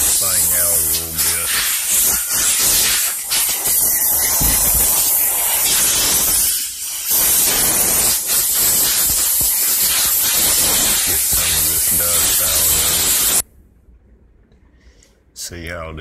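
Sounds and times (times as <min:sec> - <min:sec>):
compressed air blow gun hissing: 0:00.0 - 0:13.4.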